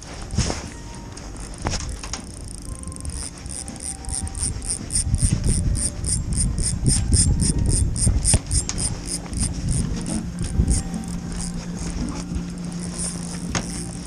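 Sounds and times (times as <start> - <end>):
fishing reel ticking: 0.0 - 0.4, 1.1 - 14.0
camera handling rumble: 1.3 - 14.0.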